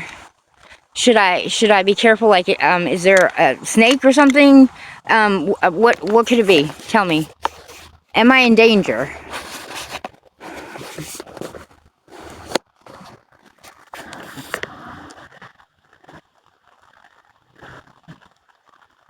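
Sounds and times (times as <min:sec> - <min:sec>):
rustling and scraping: 0:00.0 - 0:16.2.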